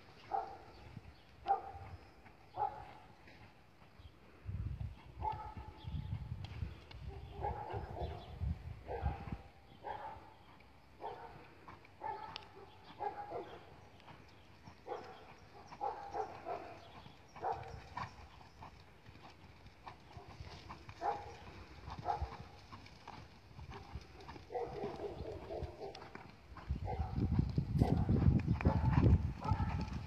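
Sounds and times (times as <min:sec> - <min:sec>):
horse hooves trotting on sand: 0:00.0 - 0:30.0.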